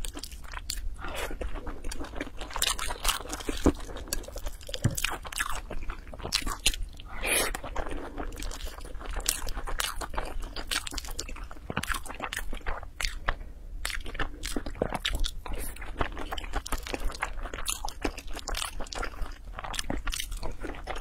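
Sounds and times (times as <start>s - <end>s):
chewing with crunches: 0.0s - 21.0s.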